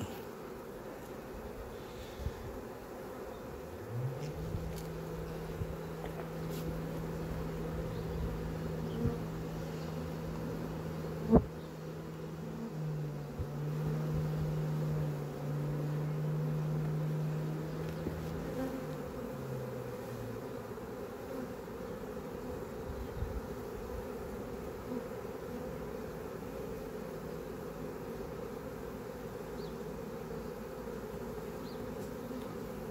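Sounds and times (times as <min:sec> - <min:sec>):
honeybees buzzing: 0:00.0 - 0:32.9.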